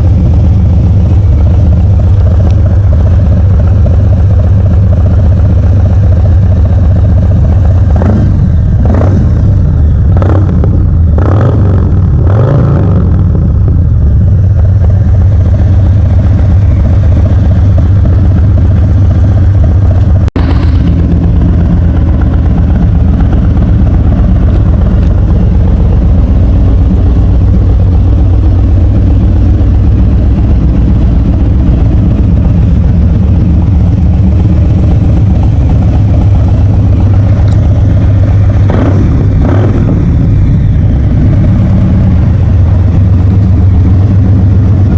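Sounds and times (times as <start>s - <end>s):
motorcycle engine revving and idling: 0.0s - 44.9s.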